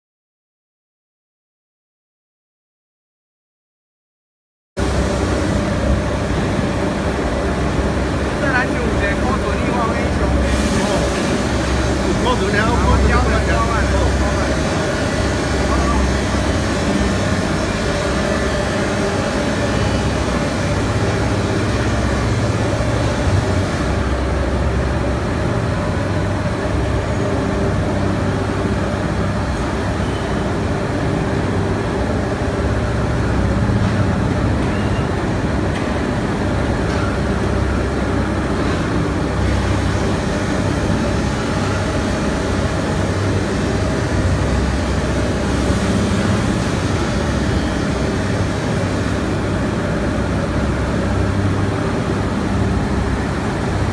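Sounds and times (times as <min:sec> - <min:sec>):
machinery rumble and hum: 0:04.8 - 0:53.9.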